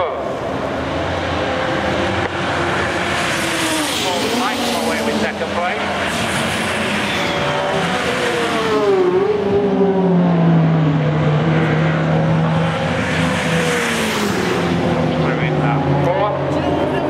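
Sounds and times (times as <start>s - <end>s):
racing car engines passing: 0.0s - 17.0s.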